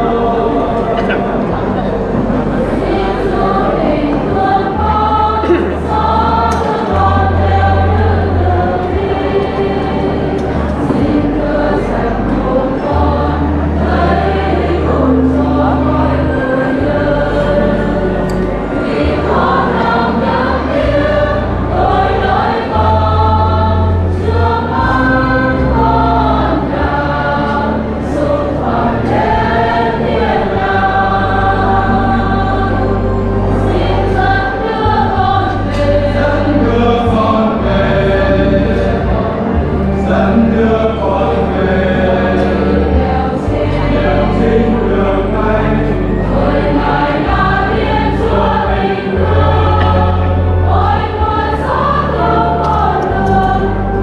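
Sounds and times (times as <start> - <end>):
choir singing a hymn: 0.0 - 54.0
held low bass notes: 0.0 - 54.0.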